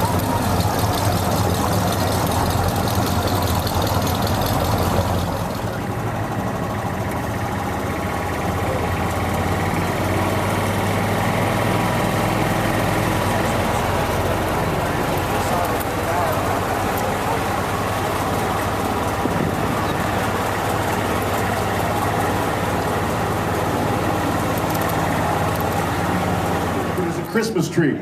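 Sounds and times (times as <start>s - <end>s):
car engine idling: 0.0s - 27.4s.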